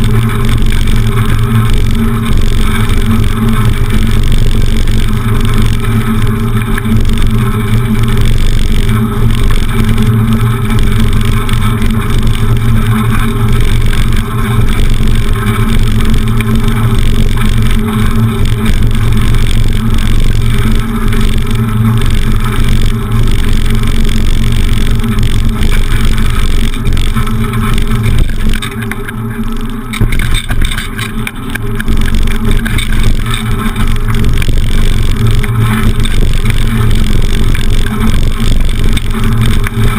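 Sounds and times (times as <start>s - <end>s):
bicycle rattling over cobblestones: 0.0s - 39.9s
low steady hum: 0.0s - 39.9s
wind rumble: 0.0s - 39.9s.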